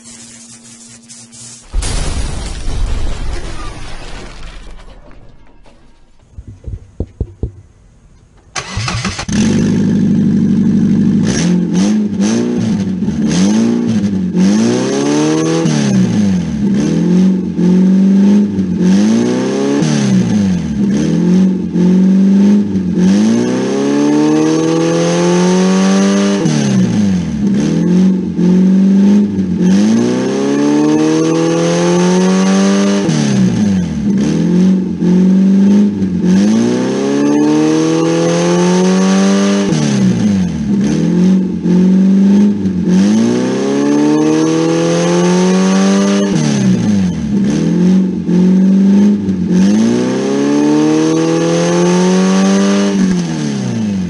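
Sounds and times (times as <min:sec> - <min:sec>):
car engine revving: 0:08.6 - 0:54.0.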